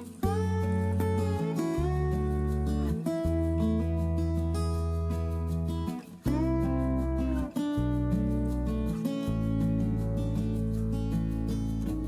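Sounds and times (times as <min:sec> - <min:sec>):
acoustic guitar piece: 0:00.0 - 0:12.0.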